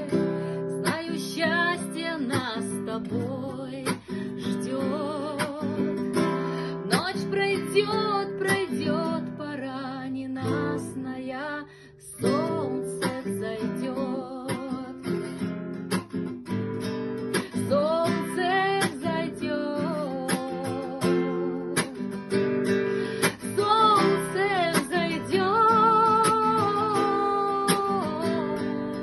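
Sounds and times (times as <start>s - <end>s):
acoustic guitar strumming: 0.0s - 11.4s, 12.1s - 29.0s
woman singing: 0.0s - 15.6s, 17.2s - 29.0s.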